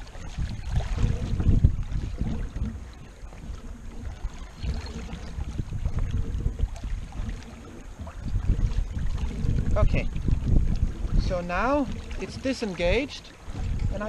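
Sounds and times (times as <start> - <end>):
sea water rushing past boat: 0.0 - 14.0
wind buffeting microphone: 0.0 - 14.0.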